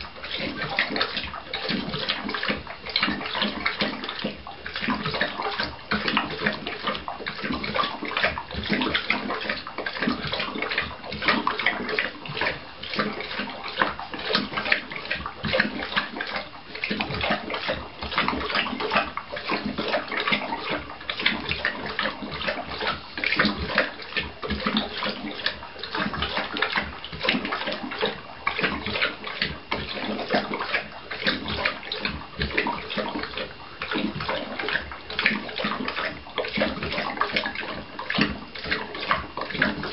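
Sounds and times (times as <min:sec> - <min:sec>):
dog lapping water from metal bowl: 0:00.0 - 0:39.9.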